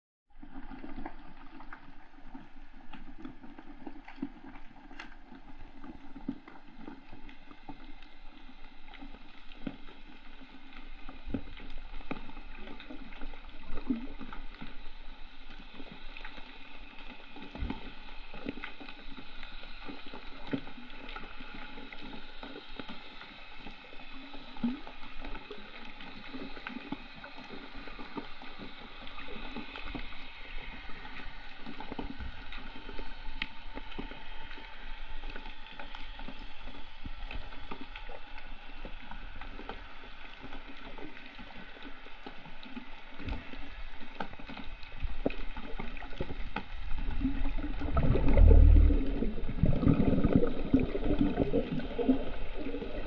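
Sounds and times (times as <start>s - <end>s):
muffled water gurgling and bubbling: 0.3s - 53.0s
small clicks and crackles: 0.4s - 53.0s.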